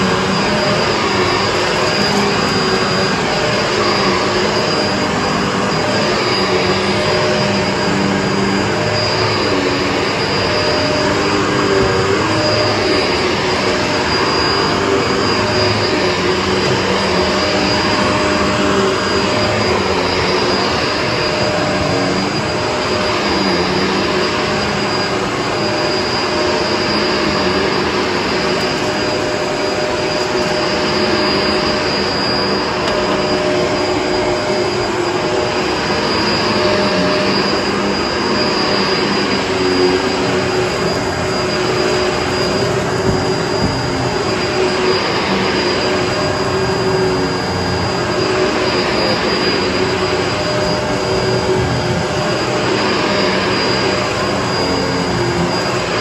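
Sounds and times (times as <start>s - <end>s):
upright vacuum cleaner running: 0.0s - 56.0s.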